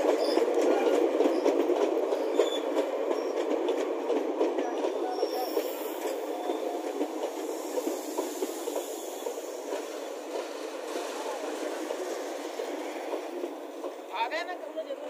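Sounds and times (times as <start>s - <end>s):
train wheels rattling on track: 0.0s - 15.0s.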